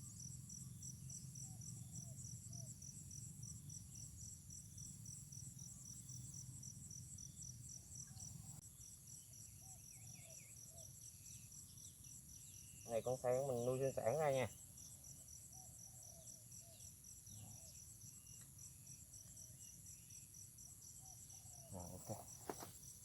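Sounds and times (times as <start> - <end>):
insect chorus trilling: 0.0 - 23.0.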